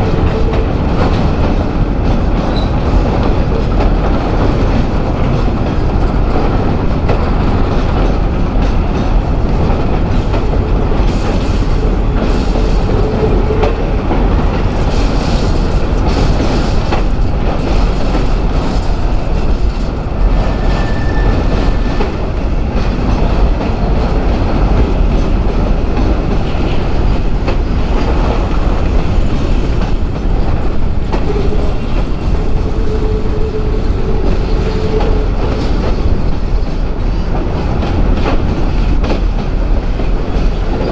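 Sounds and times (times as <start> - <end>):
clickety-clack of wheels: 0.0 - 40.9
freight train wheels rumbling: 0.0 - 40.9.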